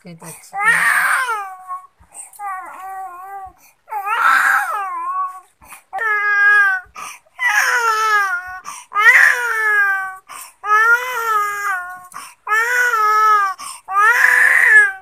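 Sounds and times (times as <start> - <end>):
infant crying: 0.5 - 15.0.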